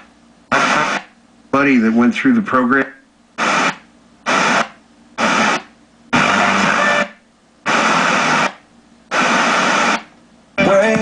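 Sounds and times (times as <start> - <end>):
radio static hissing: 0.0 - 11.0.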